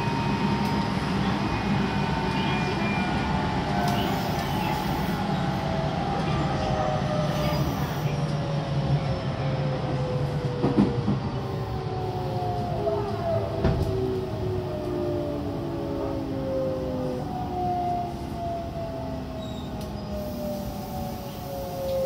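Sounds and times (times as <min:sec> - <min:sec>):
train inverter whine: 0:00.0 - 0:22.0.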